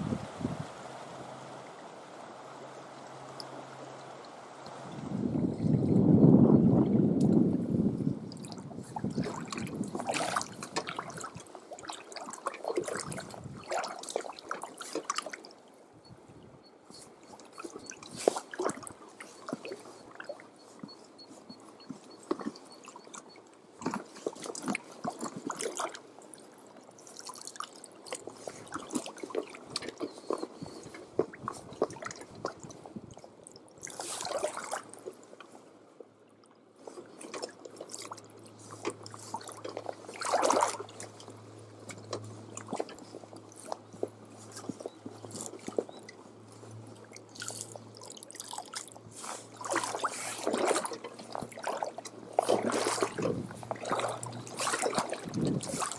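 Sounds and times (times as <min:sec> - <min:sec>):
shallow water splashing: 0:00.0 - 0:15.9, 0:16.9 - 0:35.7, 0:36.6 - 0:55.9.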